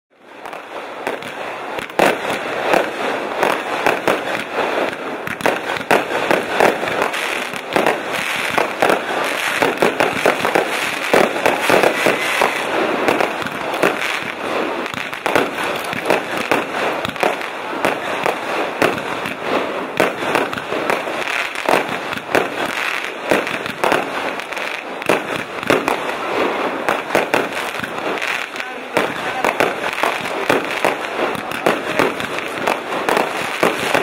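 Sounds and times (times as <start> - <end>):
fireworks bangs and crackles: 0.1 - 34.0.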